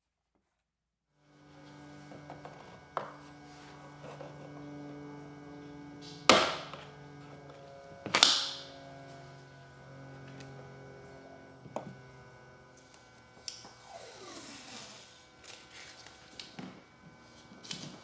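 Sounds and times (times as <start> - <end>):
steady low hum: 1.3 - 18.0.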